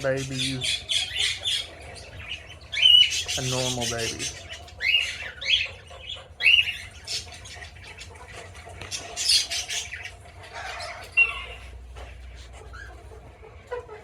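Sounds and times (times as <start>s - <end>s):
parrots squawking and screeching: 0.0s - 14.0s.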